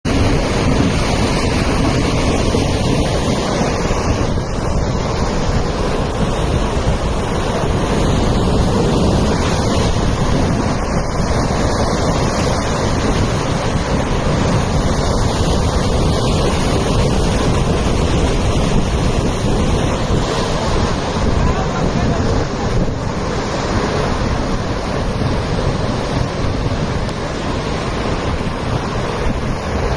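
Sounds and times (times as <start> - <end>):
floodwater rushing: 0.0 - 29.9
wind buffeting microphone: 0.0 - 29.9.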